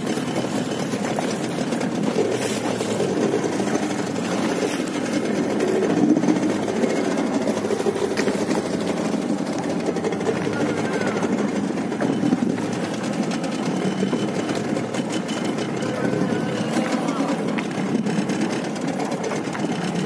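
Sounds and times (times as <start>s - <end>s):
boat engine chugging: 0.0s - 20.0s.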